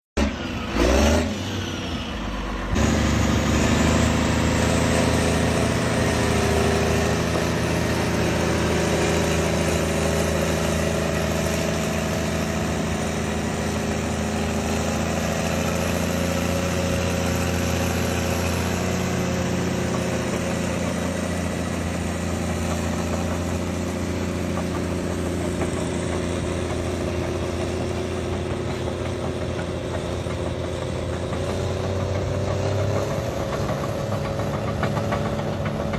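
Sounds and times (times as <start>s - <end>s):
diesel engine humming: 0.2s - 35.9s.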